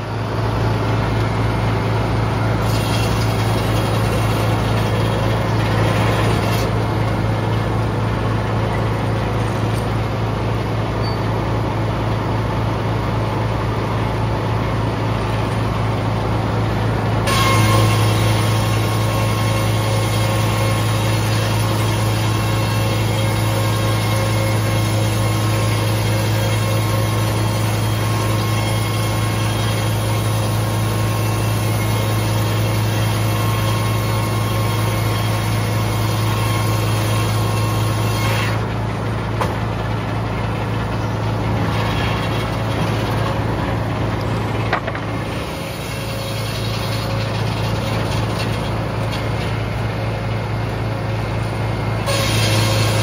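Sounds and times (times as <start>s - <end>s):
circular saw cutting log: 0.7s - 10.2s, 17.2s - 39.7s, 40.3s - 50.2s, 51.5s - 53.0s.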